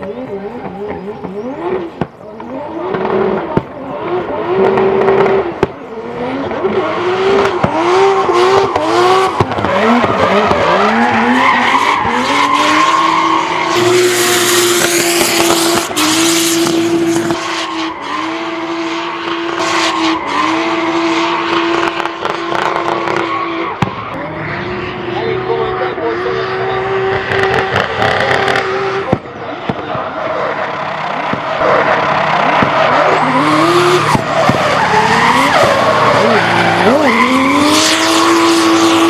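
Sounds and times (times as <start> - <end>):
car engine revving hard: 0.0 - 39.0
tyres squealing and skidding: 0.0 - 39.0.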